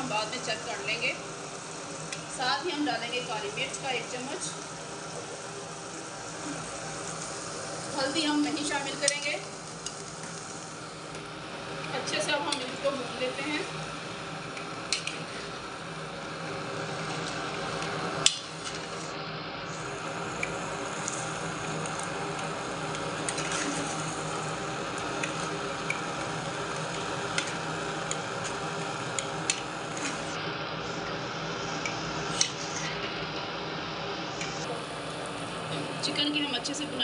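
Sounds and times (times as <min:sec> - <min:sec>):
chicken sizzling in a pot: 0:00.0 - 0:37.0.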